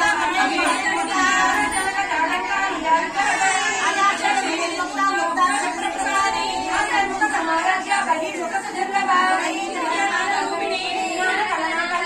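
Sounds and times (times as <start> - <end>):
women singing a hymn: 0.0 - 12.0.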